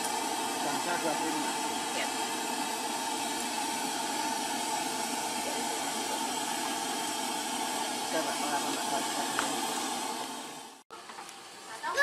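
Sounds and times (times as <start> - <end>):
steady rushing hiss: 0.0 - 11.9.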